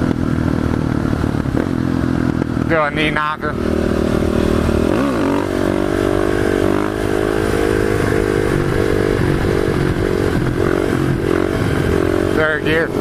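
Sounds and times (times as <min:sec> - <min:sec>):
motorcycle engine revving high: 0:00.0 - 0:13.0.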